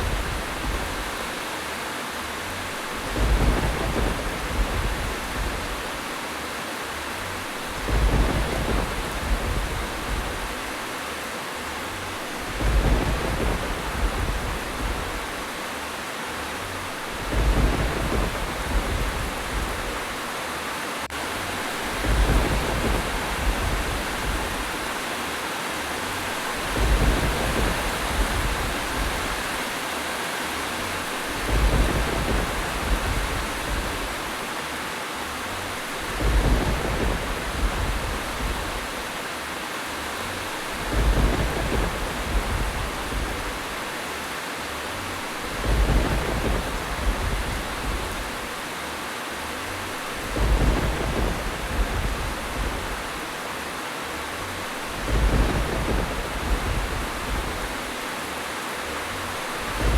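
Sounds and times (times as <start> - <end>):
thunder rumbling: 0.0 - 1.6, 2.2 - 6.2, 6.9 - 11.0, 11.6 - 15.7, 16.4 - 20.4, 21.0 - 30.0, 30.6 - 48.8, 49.4 - 58.2, 59.0 - 59.9
heavy rain hissing: 0.0 - 59.9.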